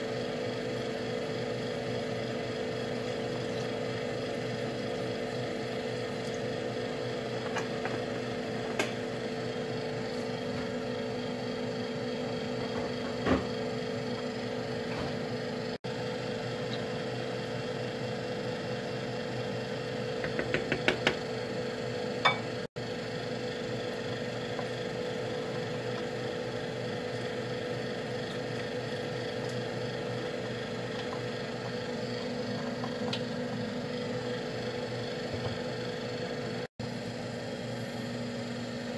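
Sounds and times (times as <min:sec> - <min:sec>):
appliance electrical hum: 0:00.0 - 0:38.9.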